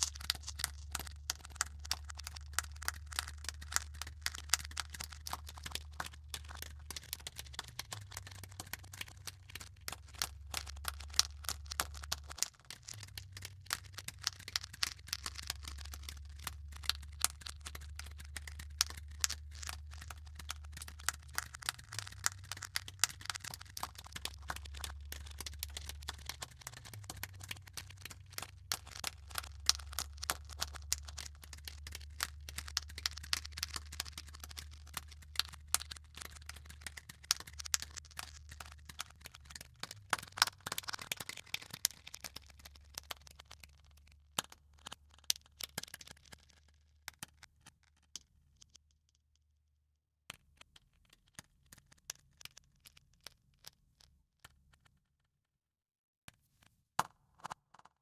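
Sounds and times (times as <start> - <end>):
dense crackling: 0.0 - 46.7.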